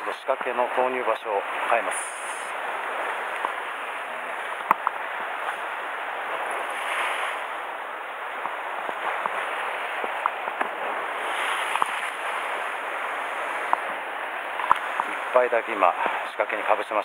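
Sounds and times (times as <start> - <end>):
surf washing against rocks: 0.0 - 17.0.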